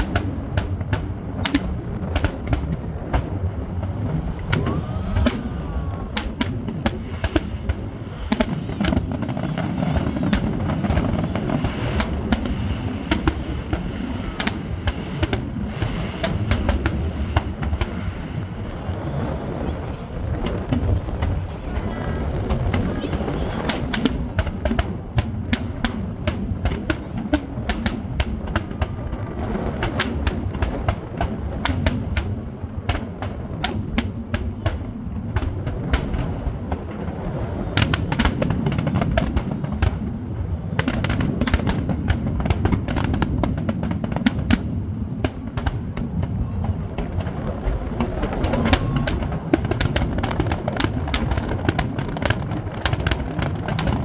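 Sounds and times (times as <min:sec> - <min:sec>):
fireworks cracking and popping: 0:00.0 - 0:54.0.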